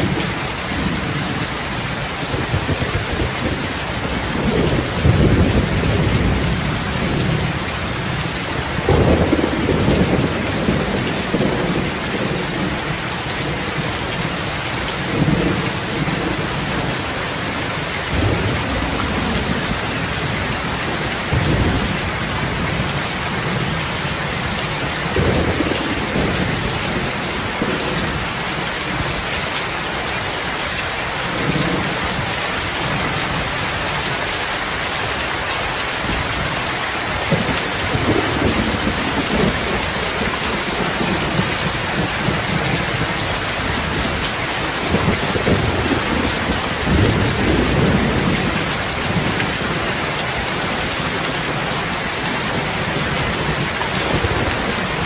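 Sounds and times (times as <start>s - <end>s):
thunder rumbling: 0.0s - 29.3s, 36.0s - 55.0s
heavy rain: 0.0s - 55.0s.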